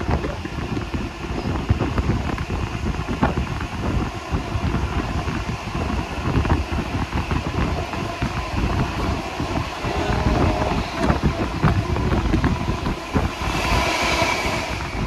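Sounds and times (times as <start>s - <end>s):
train rumbling on track: 0.0s - 15.0s
wind buffeting microphone: 0.0s - 15.0s.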